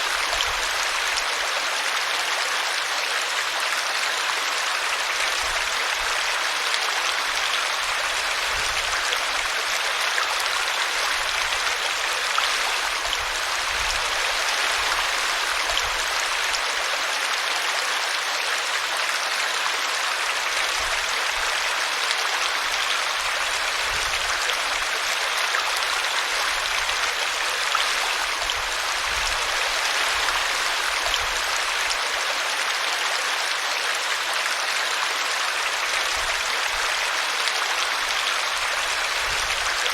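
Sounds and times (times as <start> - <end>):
brook running water: 0.0 - 39.9.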